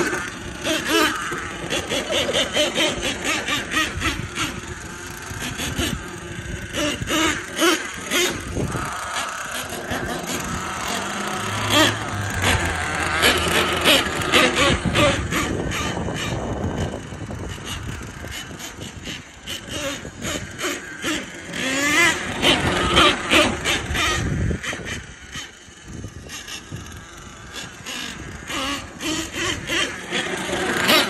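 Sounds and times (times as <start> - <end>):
model engine buzzing and revving: 0.0 - 31.0.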